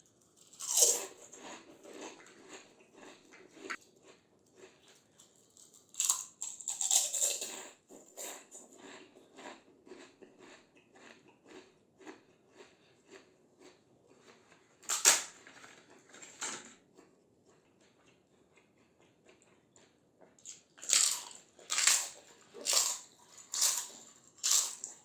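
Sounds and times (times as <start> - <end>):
crunchy chewing: 0.3 - 16.4, 17.0 - 25.0
crunching bites of crispy snack: 0.4 - 16.0, 20.4 - 25.0.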